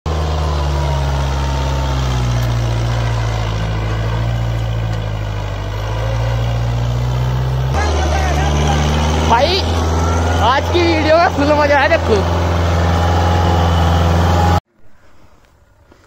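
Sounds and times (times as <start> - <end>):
tractor diesel engine running: 0.0 - 14.6.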